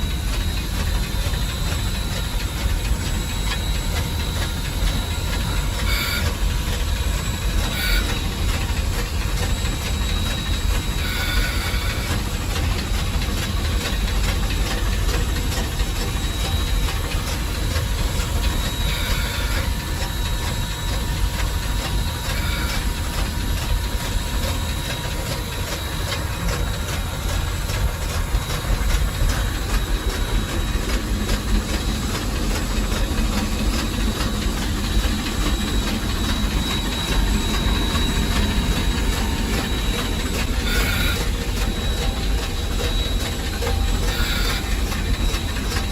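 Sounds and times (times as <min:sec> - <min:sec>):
locomotive low rumble: 0:00.0 - 0:45.9
steam hissing: 0:00.0 - 0:45.9.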